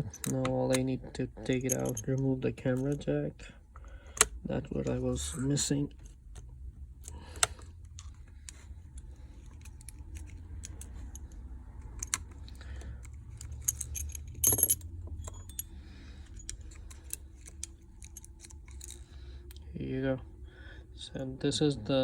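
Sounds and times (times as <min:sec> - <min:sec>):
tools clicking and rattling: 0:00.0 - 0:05.0, 0:05.9 - 0:19.6
low steady hum: 0:00.0 - 0:22.0.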